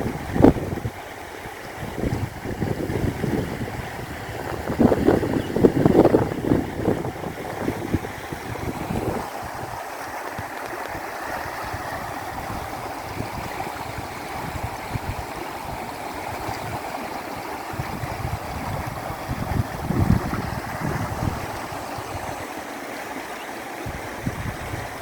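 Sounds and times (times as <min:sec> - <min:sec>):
wind buffeting microphone: 0:00.0 - 0:22.6, 0:23.8 - 0:25.0
river water flowing: 0:00.0 - 0:25.0.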